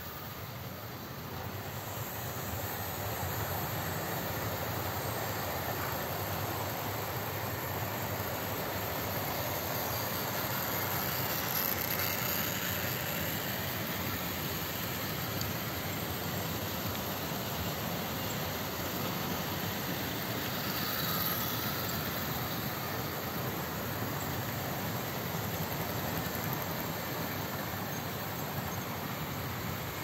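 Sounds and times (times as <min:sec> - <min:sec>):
model train wheels rumbling on rails: 0:00.0 - 0:30.0.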